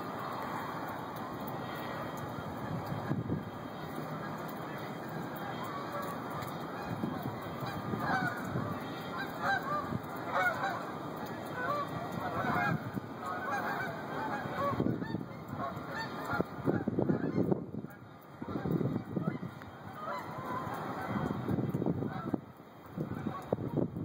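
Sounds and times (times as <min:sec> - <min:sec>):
geese honking: 0:00.0 - 0:22.4.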